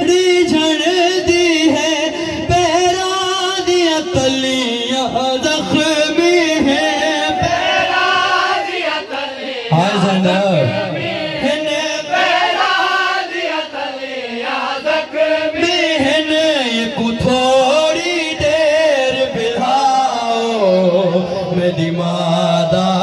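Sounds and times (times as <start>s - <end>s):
man chanting lament into microphone: 0.0s - 8.7s, 9.6s - 12.5s, 14.9s - 23.0s.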